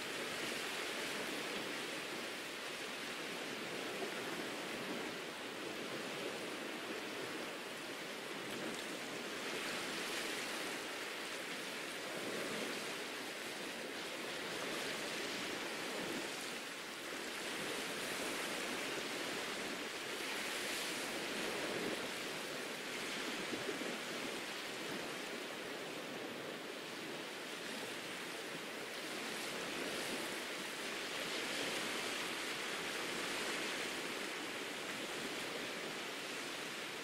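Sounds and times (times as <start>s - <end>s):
waves washing onto sand: 0.0s - 37.0s.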